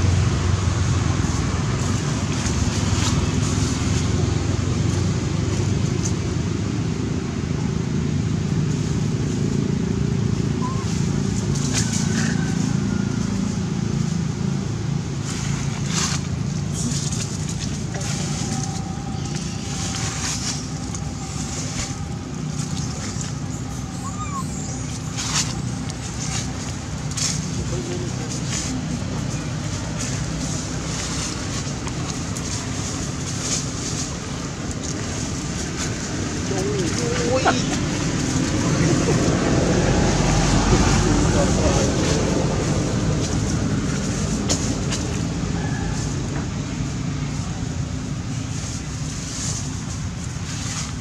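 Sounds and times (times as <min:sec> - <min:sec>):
low outdoor rumble: 0:00.0 - 0:51.0.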